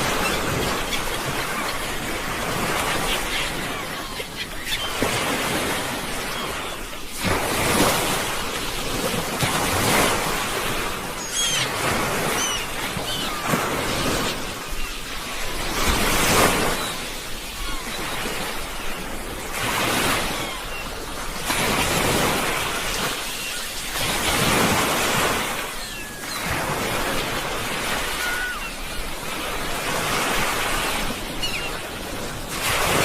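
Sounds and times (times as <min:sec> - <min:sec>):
sea waves breaking on shore: 0:00.0 - 0:33.0.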